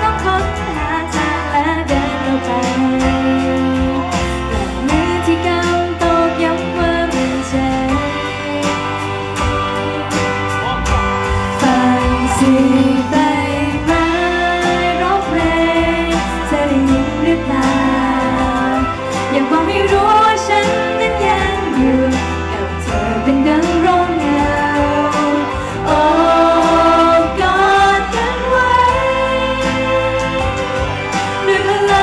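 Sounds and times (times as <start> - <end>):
woman singing into a microphone: 0.0 - 10.3, 11.4 - 32.0
backing music with drums and bass: 0.0 - 32.0.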